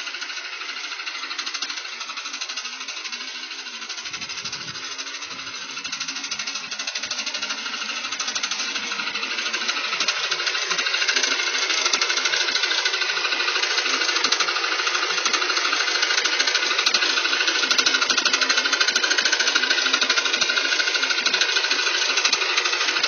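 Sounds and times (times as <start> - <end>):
engine running with rhythmic clatter: 0.0 - 23.0.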